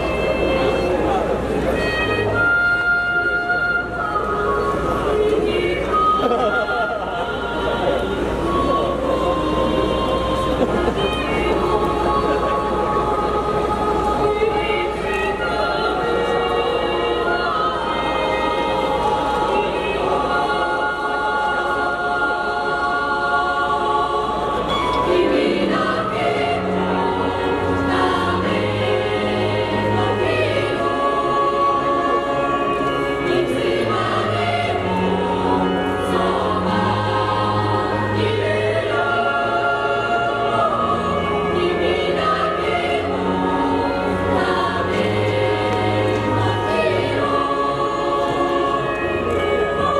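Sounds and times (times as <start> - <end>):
children's choir singing: 0.0 - 49.9.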